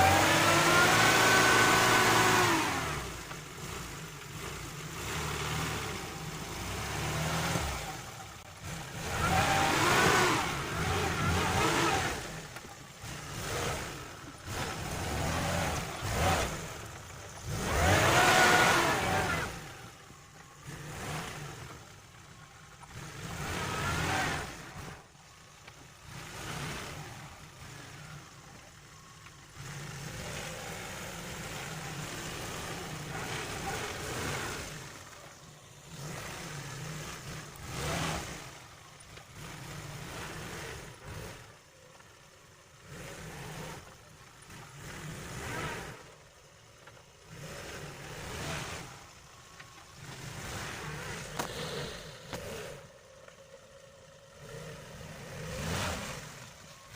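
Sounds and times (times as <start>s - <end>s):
car engine revving off-road: 0.0s - 56.9s.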